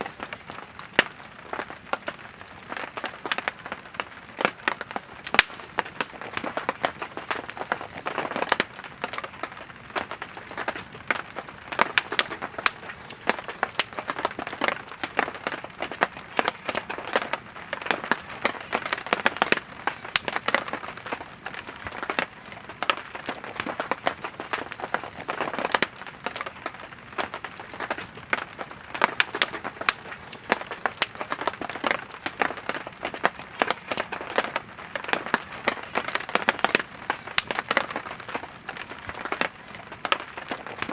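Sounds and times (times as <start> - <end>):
campfire crackling: 0.0 - 40.9
sharp pops and snaps: 0.1 - 40.9.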